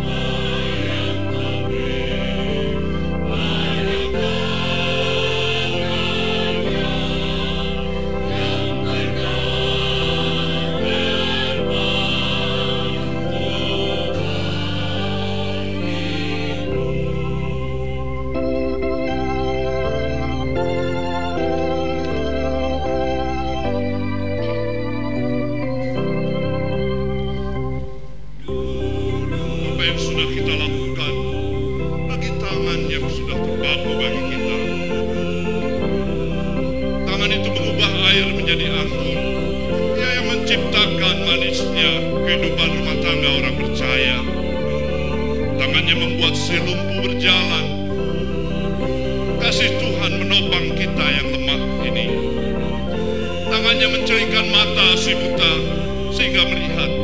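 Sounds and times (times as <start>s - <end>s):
choir singing in parts: 0.0s - 19.3s, 28.5s - 57.0s
organ chords: 0.0s - 57.0s.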